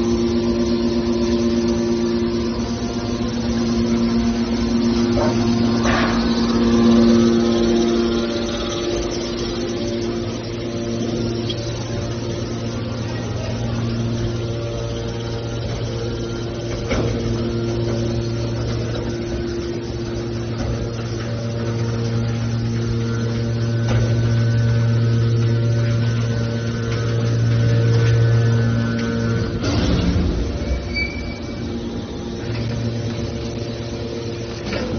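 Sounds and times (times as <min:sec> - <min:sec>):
hydraulic power unit humming: 0:00.0 - 0:34.9.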